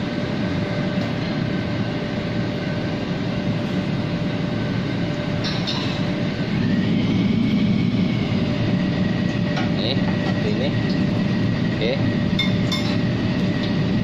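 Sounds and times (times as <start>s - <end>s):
gas burner rushing: 0.0s - 14.0s.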